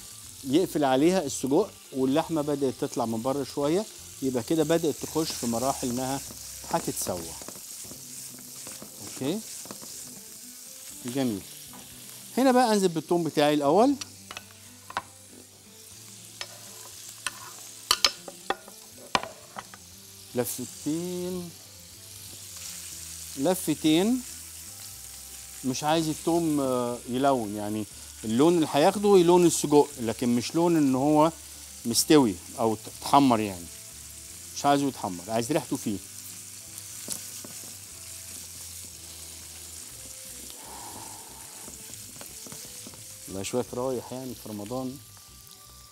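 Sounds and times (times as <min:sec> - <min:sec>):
sausage sizzling in oil: 0:00.0 - 0:45.9.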